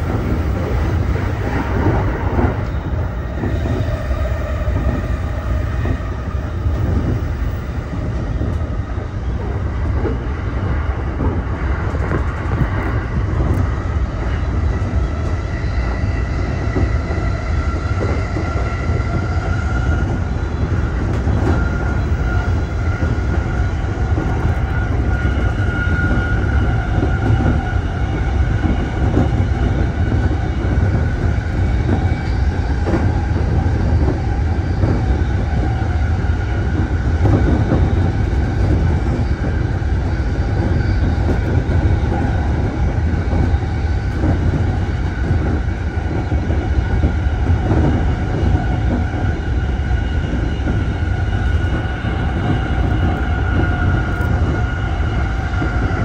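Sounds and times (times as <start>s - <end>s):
electric train whine: 0.0s - 56.0s
train wheels rumbling on rails: 0.0s - 56.0s.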